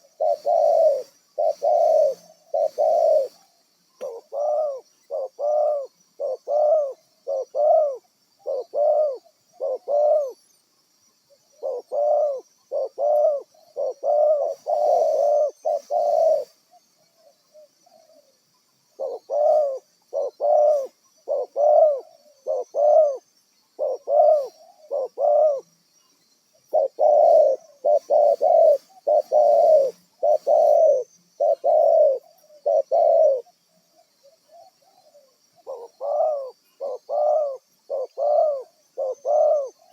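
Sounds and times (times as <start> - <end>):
doves cooing: 0.0 - 10.5, 11.4 - 25.7, 26.6 - 39.9
faint high-pitched whine: 0.0 - 39.9.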